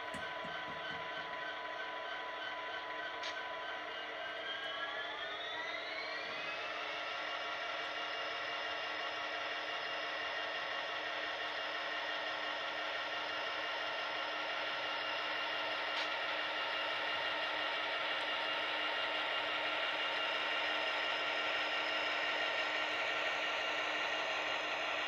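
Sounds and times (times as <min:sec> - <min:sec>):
model locomotive mechanical whine: 0:00.0 - 0:25.0.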